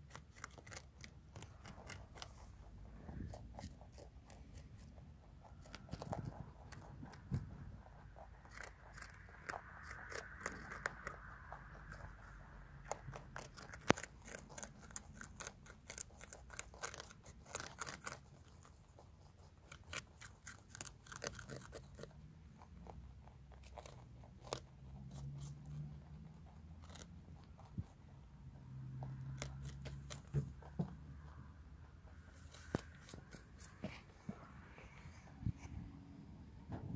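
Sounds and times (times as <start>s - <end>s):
rabbits crunching cabbage: 0.0s - 36.4s.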